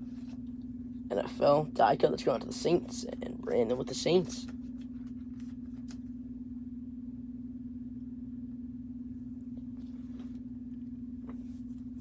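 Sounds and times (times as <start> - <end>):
low-pitched hum: 0.0 - 12.0.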